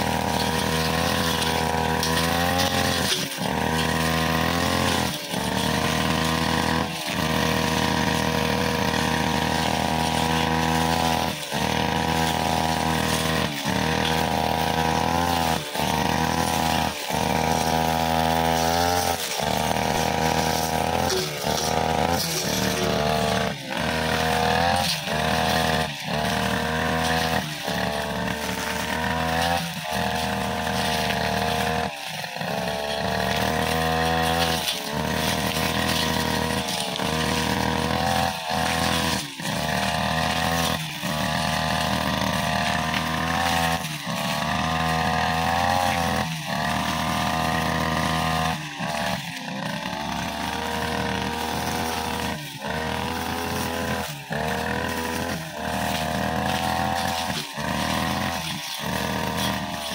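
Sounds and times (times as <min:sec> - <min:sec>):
blade cutting grass: 0:00.0 - 0:59.9
brushcutter engine running: 0:00.0 - 0:59.9.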